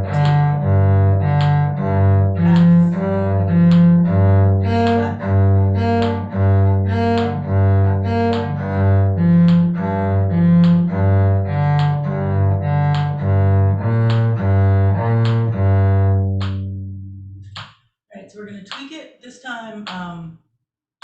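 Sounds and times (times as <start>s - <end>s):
cello bowing an arpeggio: 0.0s - 17.4s.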